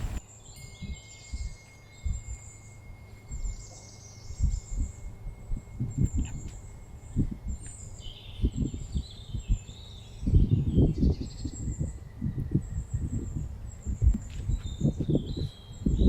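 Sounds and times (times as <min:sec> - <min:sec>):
small birds chirping: 0:00.0 - 0:16.0
wind buffeting microphone: 0:00.0 - 0:16.0.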